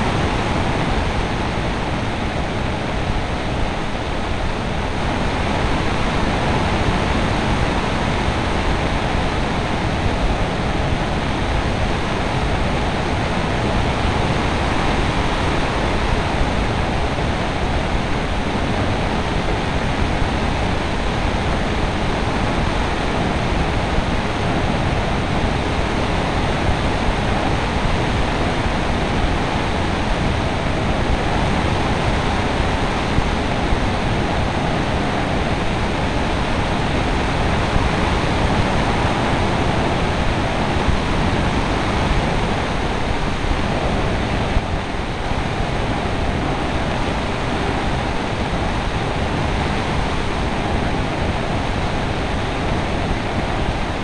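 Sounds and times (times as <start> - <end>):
air rushing over microphone: 0.0 - 54.0.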